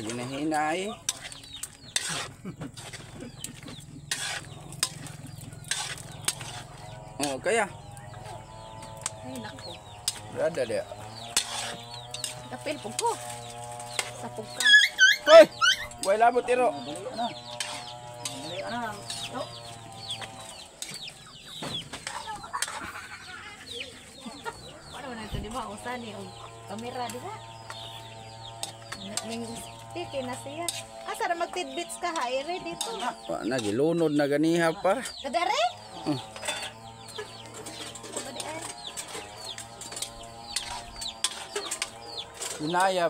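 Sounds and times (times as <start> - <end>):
ladle scraping wok: 0.0 - 21.2, 22.0 - 23.1, 25.6 - 33.3, 35.4 - 43.0
birds chirping: 0.0 - 43.0.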